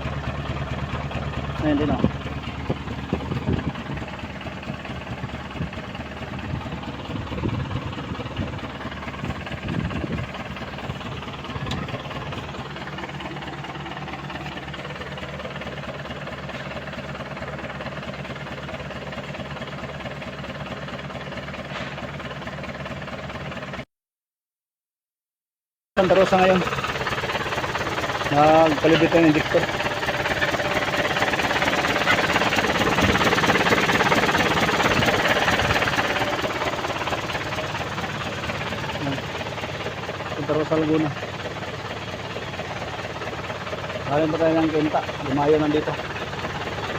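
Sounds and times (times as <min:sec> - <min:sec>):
diesel engine idling: 0:00.0 - 0:23.9, 0:26.0 - 0:46.9.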